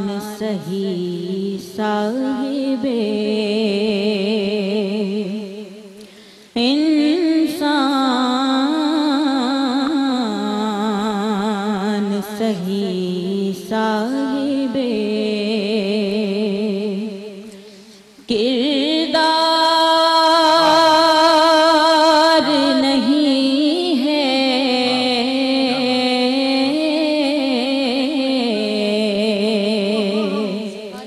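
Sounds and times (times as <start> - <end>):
woman singing into a microphone: 0.0 - 31.0.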